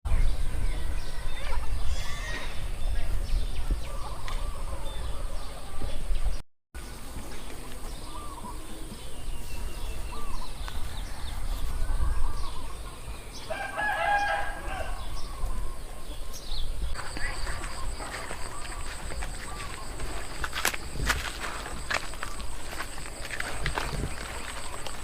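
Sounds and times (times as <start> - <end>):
poultry calling and chirping: 0.2 - 25.0.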